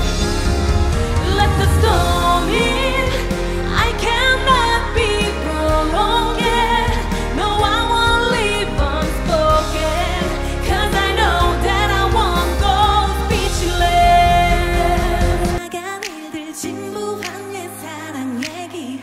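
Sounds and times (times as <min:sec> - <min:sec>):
loud backing track: 0:00.0 - 0:16.3
woman singing pop song: 0:00.9 - 0:19.0.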